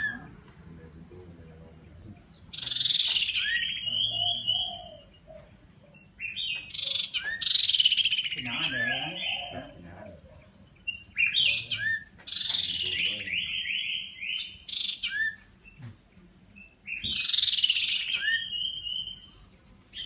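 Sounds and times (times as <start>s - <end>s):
bird chattering and whistling: 0.0s - 0.3s, 1.9s - 16.0s, 16.6s - 20.0s.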